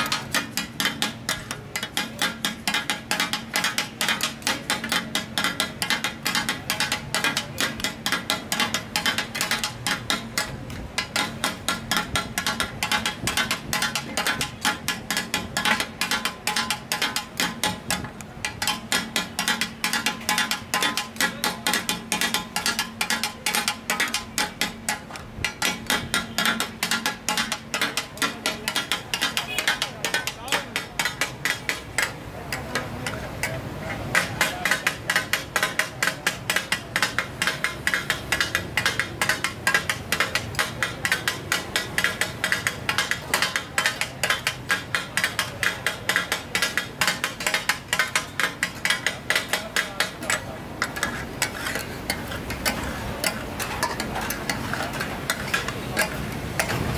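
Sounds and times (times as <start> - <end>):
spatulas clacking on iron griddle: 0.0 - 56.9.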